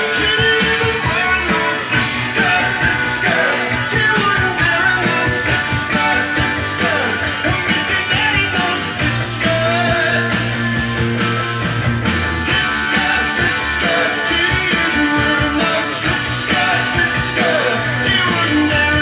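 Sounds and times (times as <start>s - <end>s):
rock song from vinyl record: 0.0s - 19.0s.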